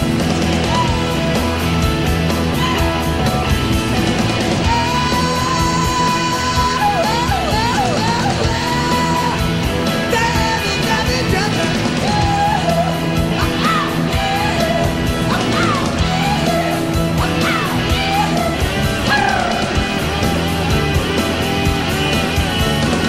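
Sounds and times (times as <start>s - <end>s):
hard rock band playing: 0.0s - 23.0s
singer yelling and wailing: 0.4s - 1.8s, 2.4s - 3.6s, 4.3s - 22.4s.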